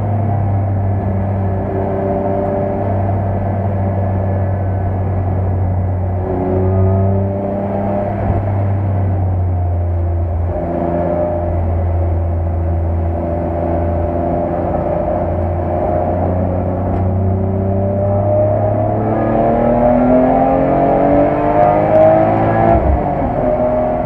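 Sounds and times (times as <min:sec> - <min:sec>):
car engine revving: 0:00.0 - 0:24.0
tyre and road noise: 0:00.0 - 0:24.0.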